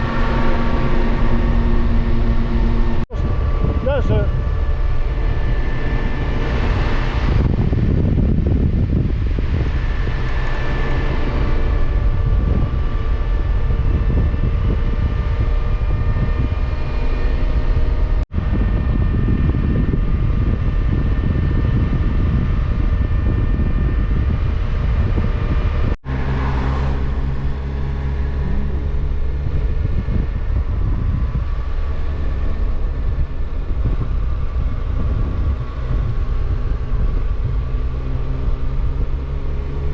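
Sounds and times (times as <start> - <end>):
motorcycle engine drone: 0.0 - 39.9
wind rumble on microphone: 0.0 - 39.9.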